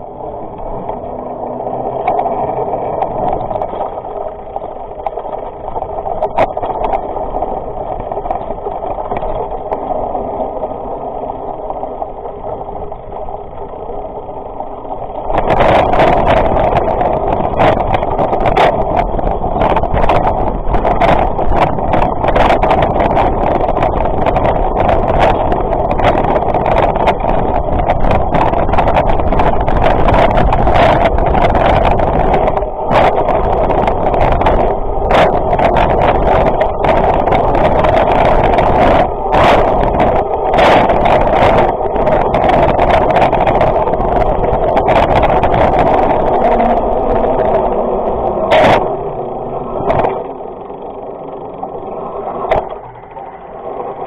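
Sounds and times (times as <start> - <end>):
bike knocks and rattles: 0.0 - 13.5, 15.0 - 53.2
wind rushing over camera: 0.0 - 54.0.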